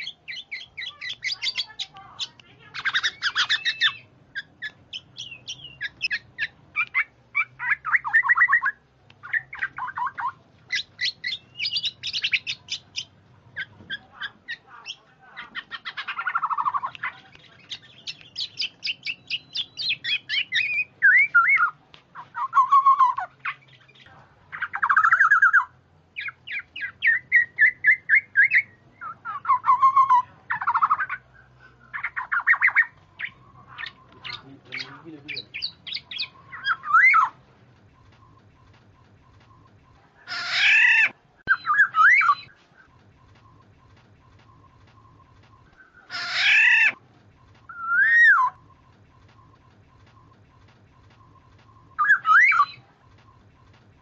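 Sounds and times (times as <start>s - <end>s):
oriole chattering calls: 0.0s - 54.0s.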